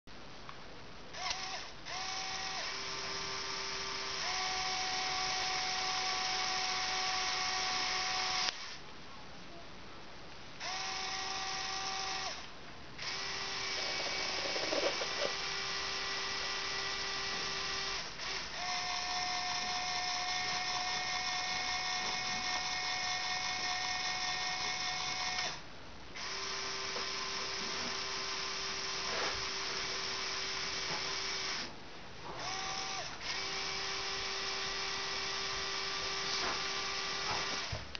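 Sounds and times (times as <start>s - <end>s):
electric motors whirring through gears: 1.2s - 8.8s, 10.6s - 25.6s, 26.2s - 37.9s.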